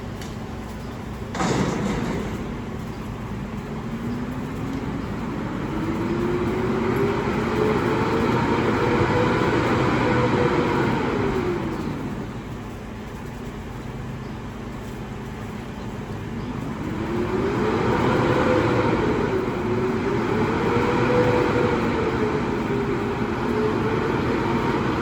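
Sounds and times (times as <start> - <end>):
garbage truck engine revving: 1.3 - 13.8, 14.6 - 25.0.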